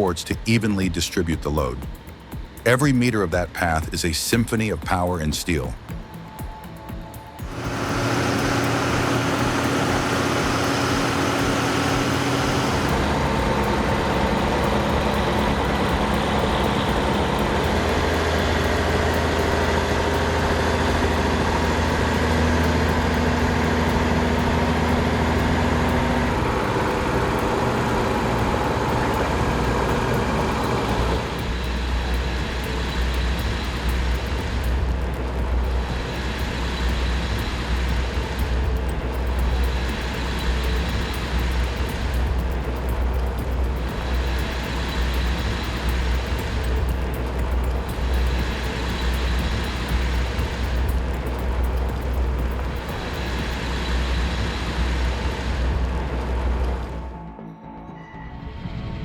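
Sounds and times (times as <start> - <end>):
heavy vehicle engines running: 7.4 - 57.3.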